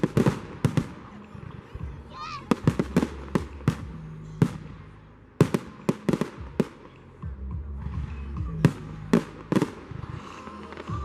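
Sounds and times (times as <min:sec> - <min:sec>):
fireworks exploding: 0:00.0 - 0:07.1, 0:07.8 - 0:11.0.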